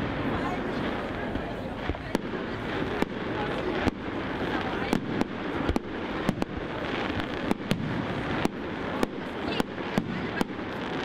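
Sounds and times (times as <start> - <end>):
background noise: 0.0 - 11.0
fireworks bangs and pops: 0.0 - 11.0.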